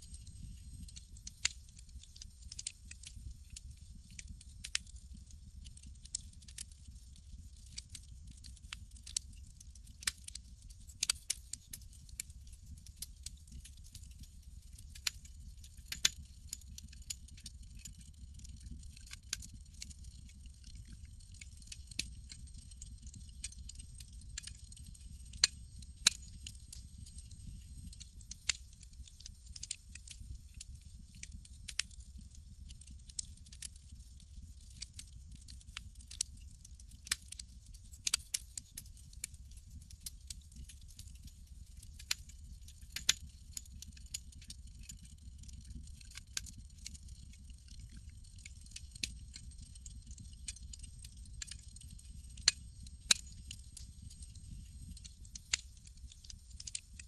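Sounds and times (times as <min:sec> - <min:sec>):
campfire crackling and popping: 0:00.1 - 0:57.0.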